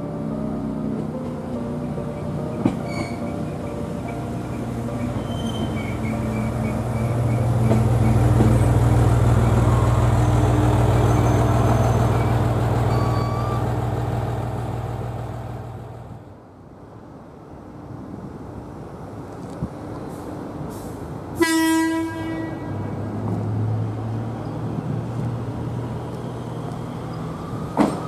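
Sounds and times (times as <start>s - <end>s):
diesel railcar engine hum: 0.0s - 28.0s.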